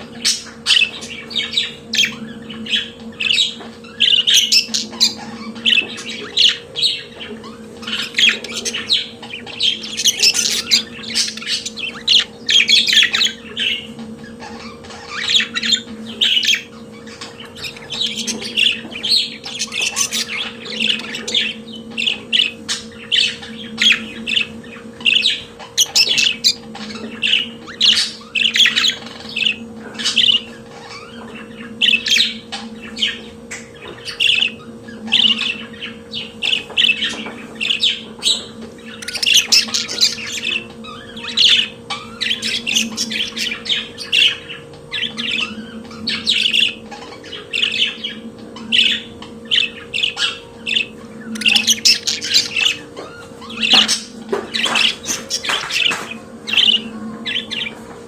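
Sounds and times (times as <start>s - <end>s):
budgerigars warbling: 0.0s - 58.0s
faint steady hum: 0.0s - 58.0s.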